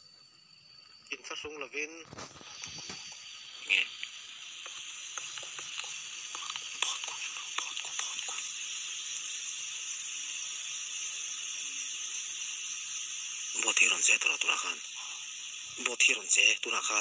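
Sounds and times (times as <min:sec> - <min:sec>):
night insects chorus: 0:00.0 - 0:17.0
soft crackles and clicks: 0:00.0 - 0:17.0.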